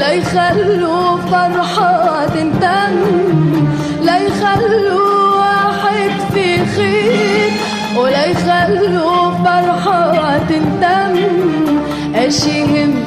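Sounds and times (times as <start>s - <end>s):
orchestra with steady beat: 0.0s - 13.0s
woman singing: 0.0s - 13.0s.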